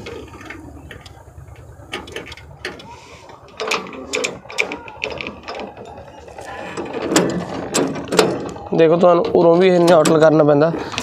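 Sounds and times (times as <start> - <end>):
tractor controls clicking: 0.0 - 11.0.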